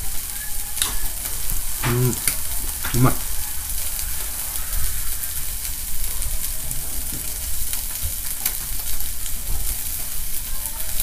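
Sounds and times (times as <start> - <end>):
food sizzling on a hot plate: 0.0 - 11.0
fat spitting crackles: 0.6 - 10.4.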